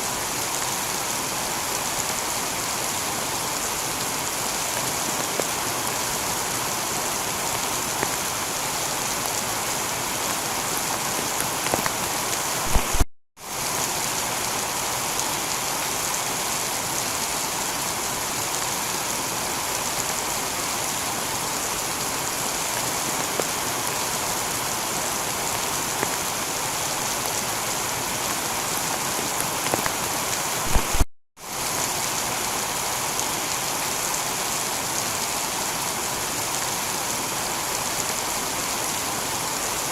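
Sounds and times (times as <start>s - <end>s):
heavy rain on a tiled roof: 0.0s - 39.9s.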